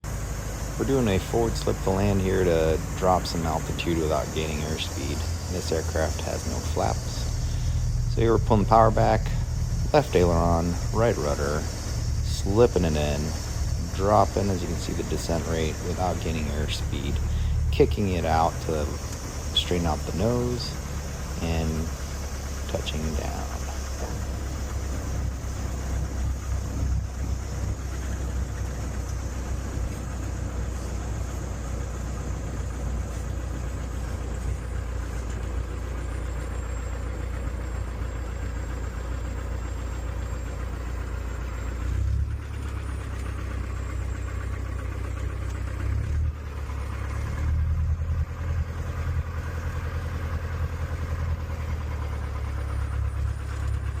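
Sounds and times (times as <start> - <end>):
light aircraft engine droning: 0.0 - 54.0.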